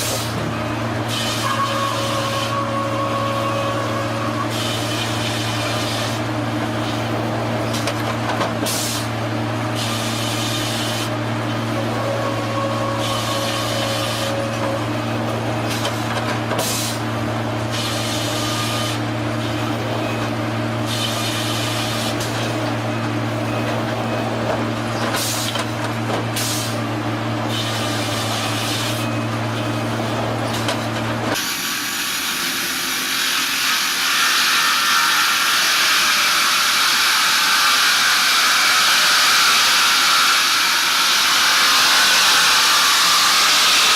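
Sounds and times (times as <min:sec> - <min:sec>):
sawmill machinery hum: 0:00.0 - 0:43.9.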